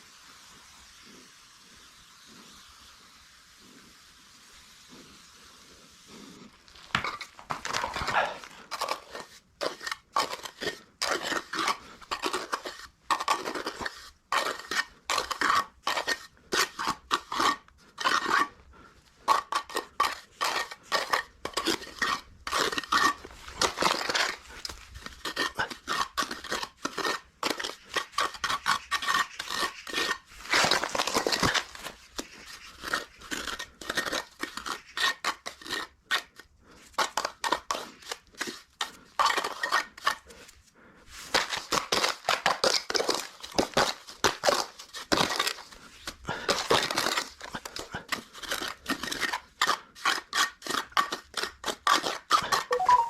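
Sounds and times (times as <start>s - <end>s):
metal tool scraping cement mortar: 5.2s - 53.0s.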